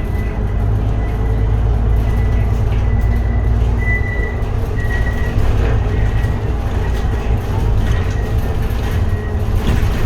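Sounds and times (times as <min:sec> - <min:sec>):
bus engine low rumble: 0:00.0 - 0:10.0.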